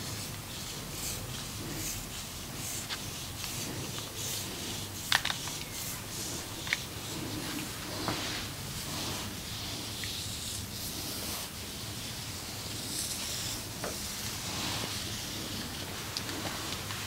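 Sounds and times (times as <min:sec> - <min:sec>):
hands rubbing skin: 0:00.0 - 0:11.6, 0:12.8 - 0:17.0.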